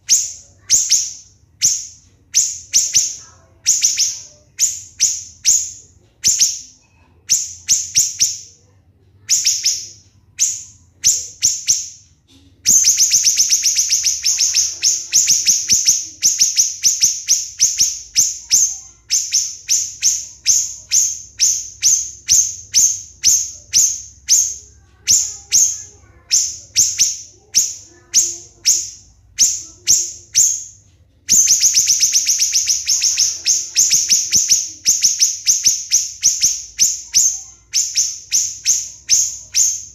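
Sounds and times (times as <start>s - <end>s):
bird singing shrill rapid notes: 0.0s - 8.6s, 9.2s - 12.0s, 12.7s - 39.9s.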